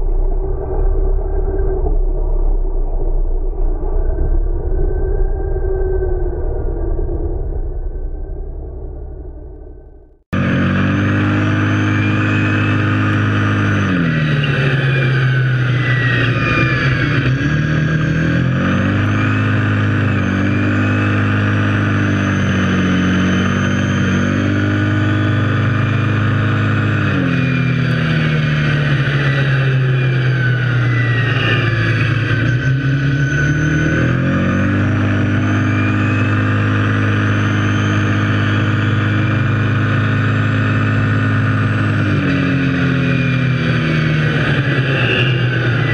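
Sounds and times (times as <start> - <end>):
quad bike engine running: 6.8 - 45.9.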